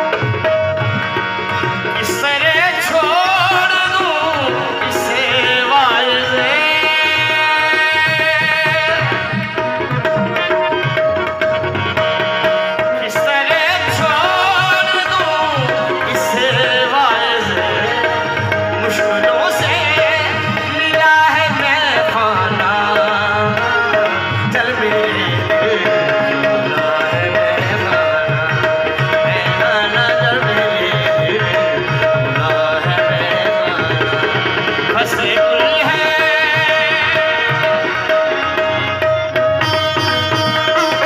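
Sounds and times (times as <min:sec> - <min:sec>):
keyboard and harmonium melody: 0:00.0 - 0:41.0
tabla rhythm: 0:00.0 - 0:41.0.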